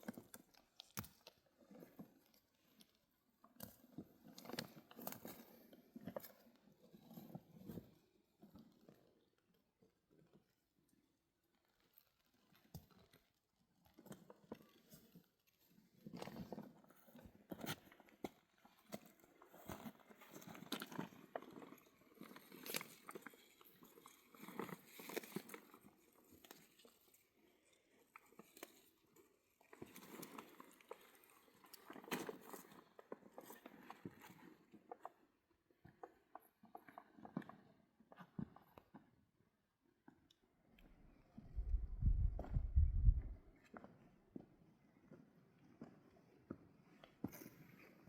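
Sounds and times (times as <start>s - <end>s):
faint crunching and clicking: 0.0s - 39.2s.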